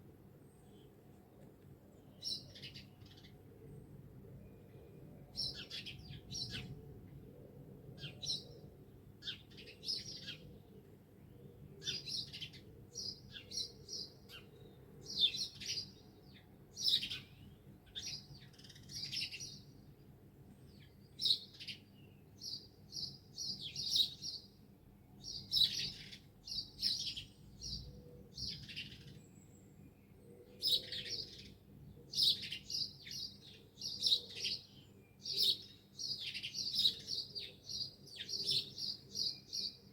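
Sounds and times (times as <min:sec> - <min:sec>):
songbirds chirping and singing: 0:04.7 - 0:24.6, 0:25.2 - 0:39.9.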